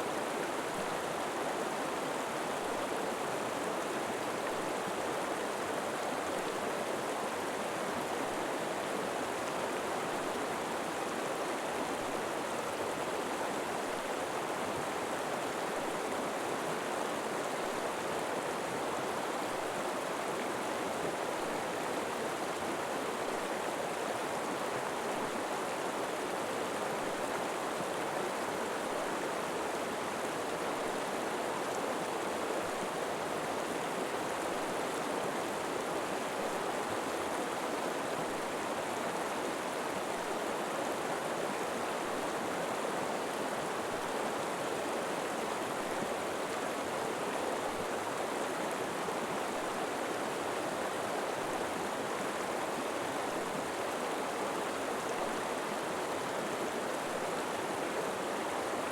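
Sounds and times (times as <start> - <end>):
river flowing over rocks: 0.0 - 58.9.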